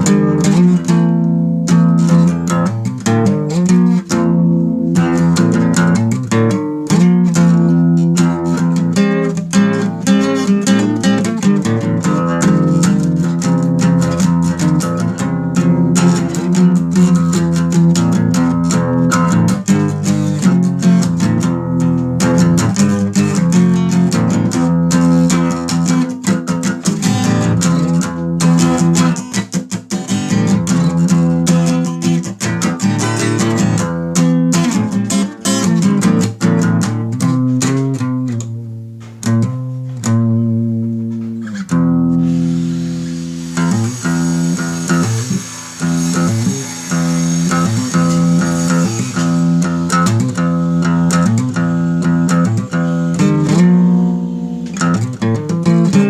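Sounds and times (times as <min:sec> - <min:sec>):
instrumental guitar music: 0:00.0 - 0:56.0.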